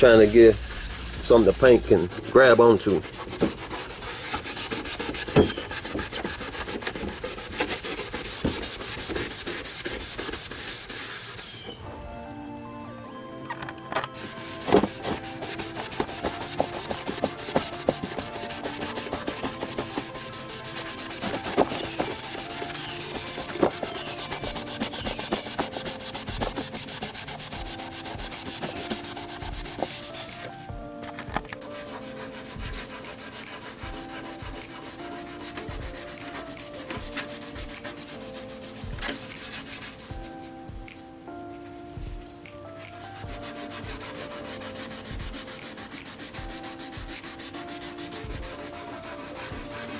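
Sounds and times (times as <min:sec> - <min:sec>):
abrasive pad scrubbing: 0:00.0 - 0:11.8, 0:14.1 - 0:30.6, 0:31.6 - 0:40.6, 0:42.8 - 0:49.9
background music: 0:00.0 - 0:49.9.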